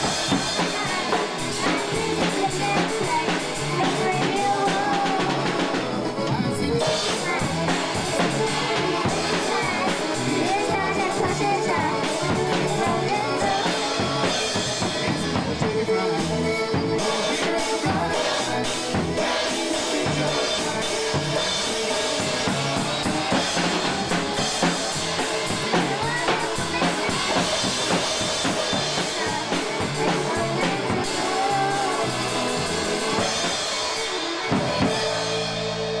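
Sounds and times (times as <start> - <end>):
drum kit playing: 0.0 - 36.0
instrumental polka country music: 0.0 - 36.0.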